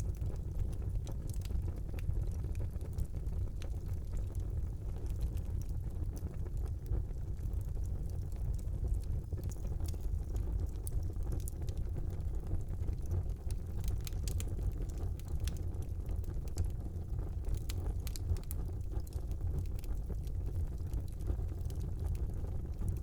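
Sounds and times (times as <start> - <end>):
fire flames rumbling: 0.0 - 23.0
logs crackling and popping: 0.0 - 23.0.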